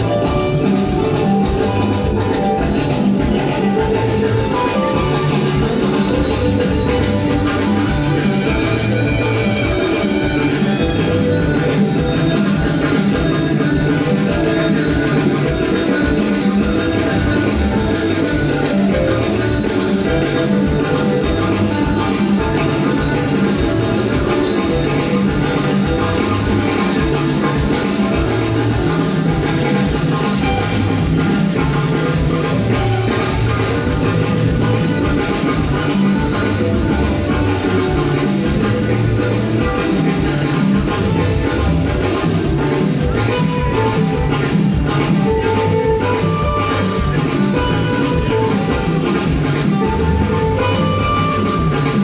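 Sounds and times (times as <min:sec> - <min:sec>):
bass line: 0:00.0 - 0:52.0
drum kit: 0:00.0 - 0:52.0
guitar: 0:00.0 - 0:52.0
live band playing: 0:00.0 - 0:52.0.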